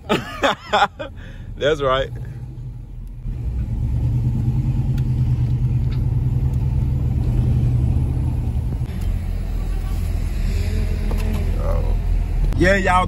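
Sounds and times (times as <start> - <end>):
car engine and exhaust rumbling: 0.0 - 13.0.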